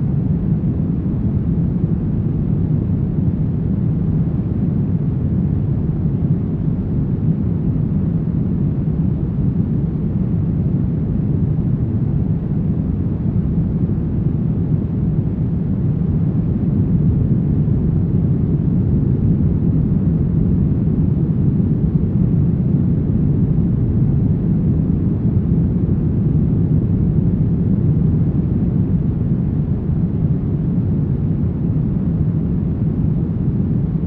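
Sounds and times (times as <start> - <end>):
deep brown noise: 0.0 - 34.0.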